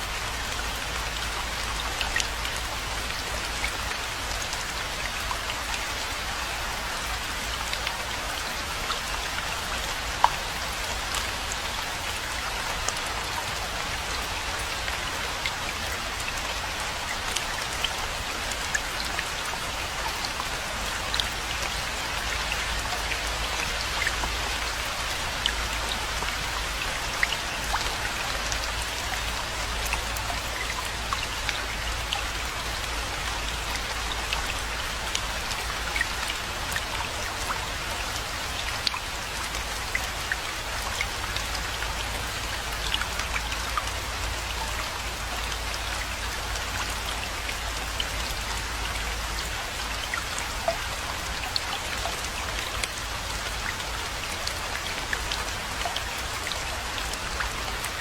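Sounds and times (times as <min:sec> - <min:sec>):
rain hiss with ticking drops: 0:00.0 - 0:58.0.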